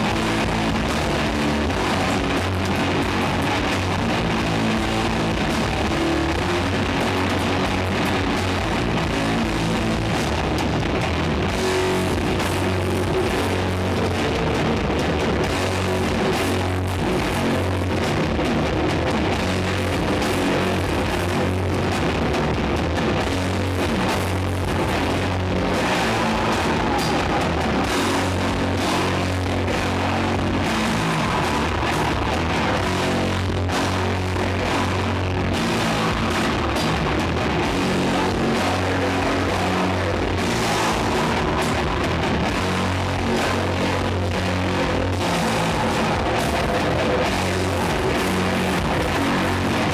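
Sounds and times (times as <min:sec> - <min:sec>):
drums: 0:00.0 - 0:49.9
electric guitars: 0:00.0 - 0:49.9.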